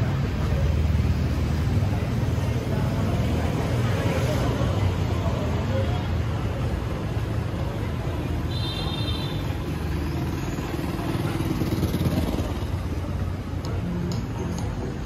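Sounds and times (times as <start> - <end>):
busy street traffic: 0.0 - 15.0.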